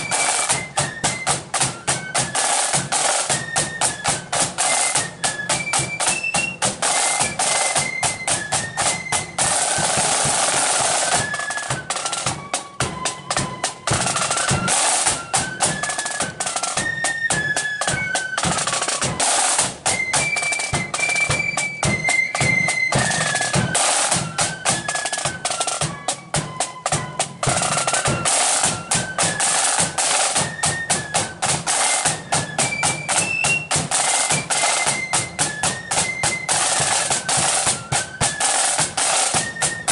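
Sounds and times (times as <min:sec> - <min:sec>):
flutes playing melody: 0:00.0 - 0:39.9
snare drum rolls: 0:00.0 - 0:39.9.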